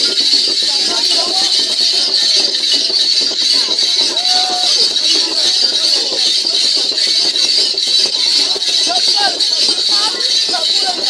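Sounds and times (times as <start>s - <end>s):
voices singing and calling: 0.0s - 11.0s.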